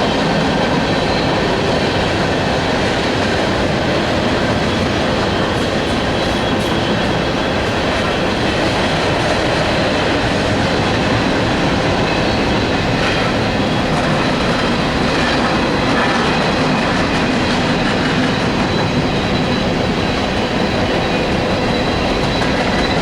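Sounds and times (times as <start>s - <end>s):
light clicks of train cars: 0.0s - 23.0s
steel wheels rumbling on rail: 0.0s - 23.0s.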